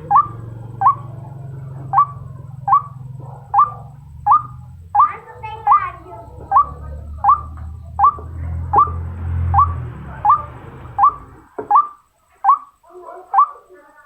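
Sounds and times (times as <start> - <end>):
low hum: 0.0 - 11.5
waterhen calling: 0.0 - 12.6.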